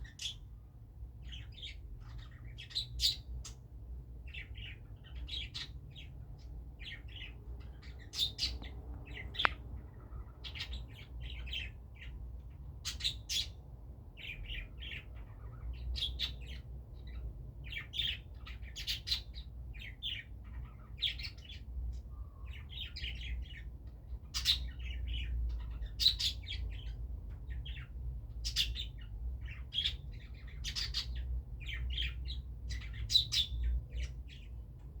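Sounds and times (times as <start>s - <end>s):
lovebirds chirping: 0.0s - 35.0s.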